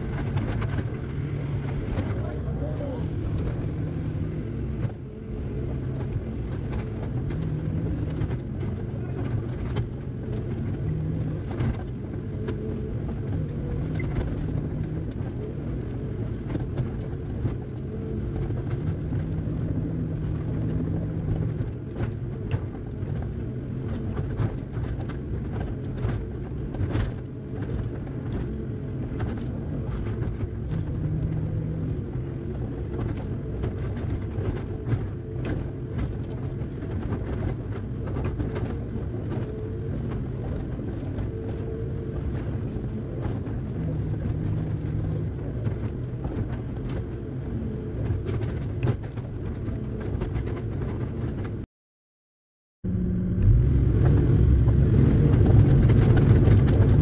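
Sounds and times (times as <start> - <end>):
excavator engine droning: 0.0 - 51.6, 52.8 - 57.0.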